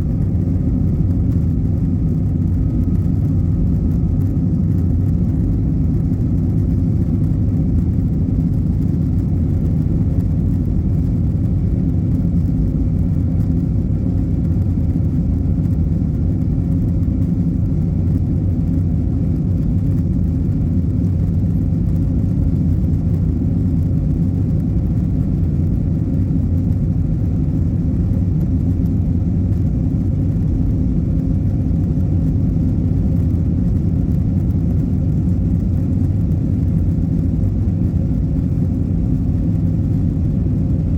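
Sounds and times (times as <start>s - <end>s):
faint hum tones: 0.0s - 40.9s
jet engines and airflow rumble: 0.0s - 40.9s.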